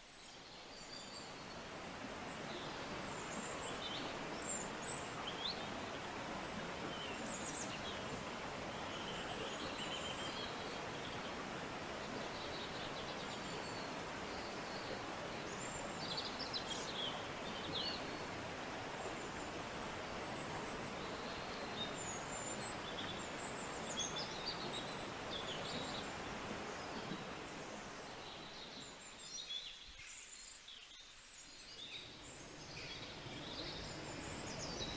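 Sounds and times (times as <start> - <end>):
steady background hiss: 0.0 - 34.9.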